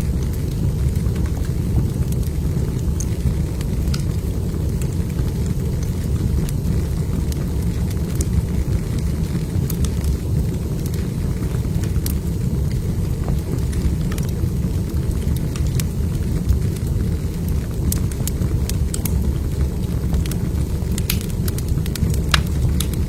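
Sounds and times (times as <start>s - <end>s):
fire crackling and popping: 0.0s - 23.0s
fire low rumble: 0.0s - 23.0s.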